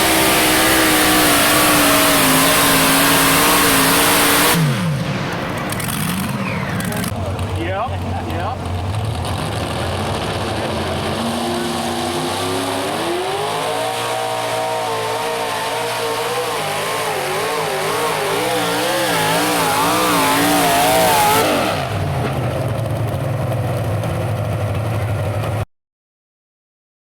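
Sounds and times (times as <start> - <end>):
engine running at high revs: 0.0 - 25.6.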